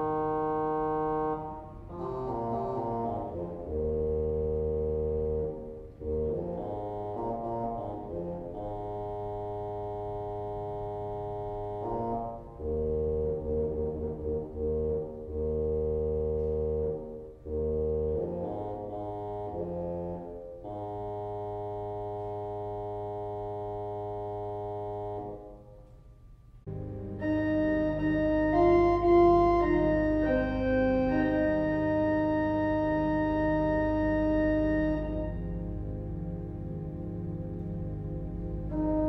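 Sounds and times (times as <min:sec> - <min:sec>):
pipe organ reed stop melody: 0:00.0 - 0:25.3, 0:26.7 - 0:39.0.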